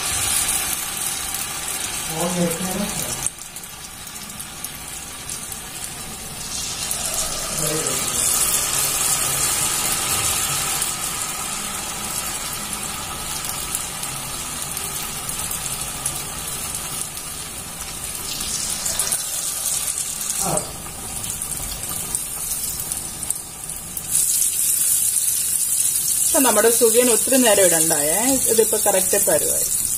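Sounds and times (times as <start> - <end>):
oil sizzling while deep-frying: 0.0 - 29.9.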